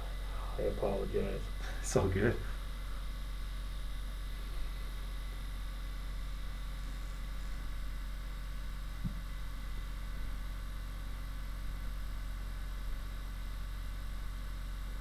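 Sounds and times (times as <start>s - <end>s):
percussion massager humming: 0.0s - 15.0s.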